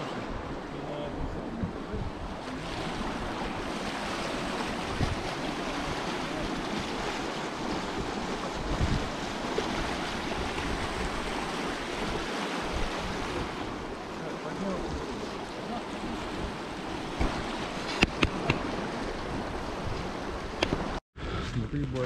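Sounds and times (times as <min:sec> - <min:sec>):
wind buffeting the microphone: 0:00.0 - 0:22.0
river water rushing: 0:02.5 - 0:21.0.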